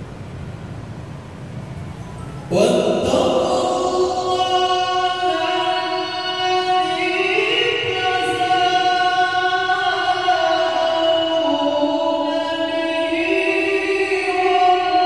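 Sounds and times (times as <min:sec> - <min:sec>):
person reciting in melodic chant: 0:02.4 - 0:15.0.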